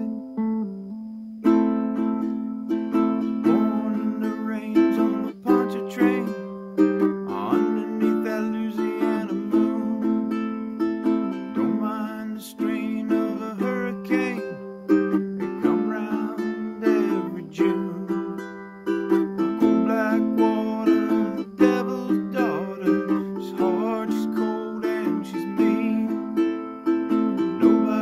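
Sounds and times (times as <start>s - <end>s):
ukulele strumming chords: 0.0s - 28.0s.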